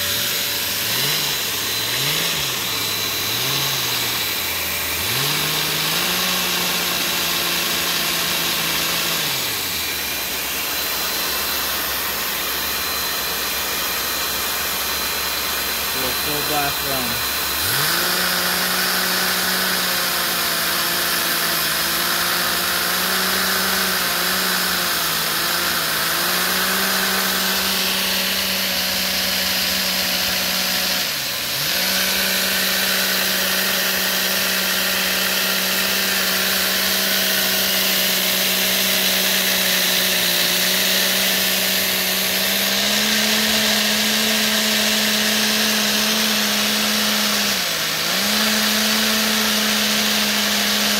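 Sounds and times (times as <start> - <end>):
small engine buzzing hum: 0.0 - 50.9.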